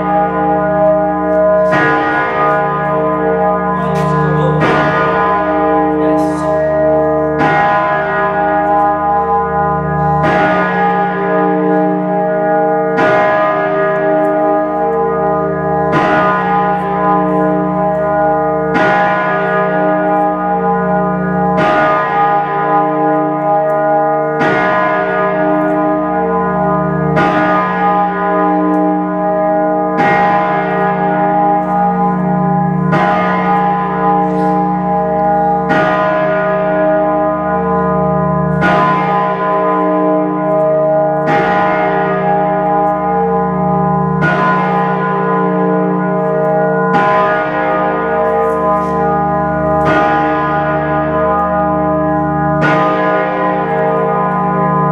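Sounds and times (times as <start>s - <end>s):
great bell clanging: 0.0s - 54.9s.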